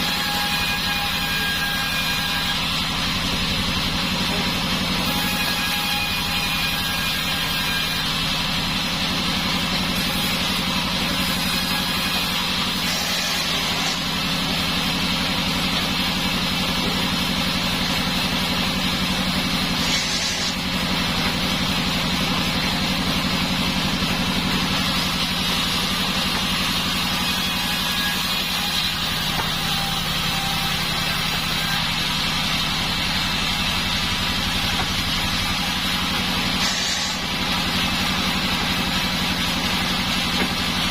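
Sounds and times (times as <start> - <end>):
band saw machine drone: 0.0 - 40.9.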